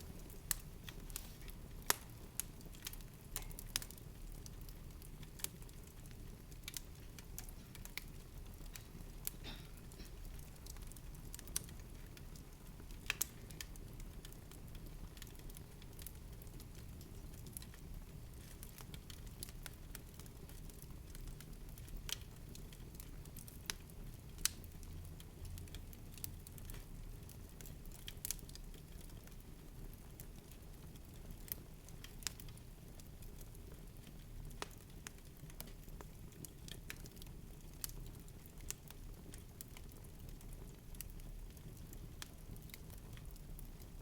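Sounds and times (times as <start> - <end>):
faint crackles and sharp ticks: 0.0 - 44.0.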